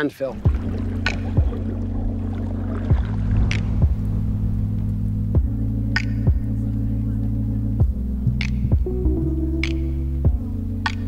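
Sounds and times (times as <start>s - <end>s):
low synth drone: 0.3s - 11.0s
deep pitch-falling thuds: 0.4s - 10.5s.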